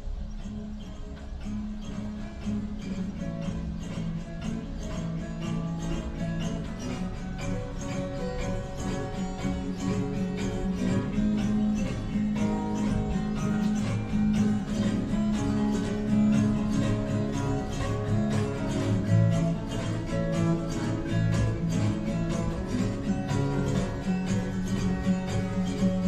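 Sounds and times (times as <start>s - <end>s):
strummed acoustic guitar: 0.0s - 26.0s.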